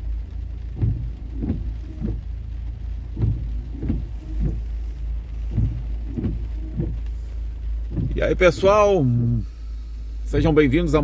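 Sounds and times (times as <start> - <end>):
heavy rain on a car: 0.0 - 11.0
low engine hum: 0.0 - 11.0
windshield wipers sweeping: 0.0 - 11.0.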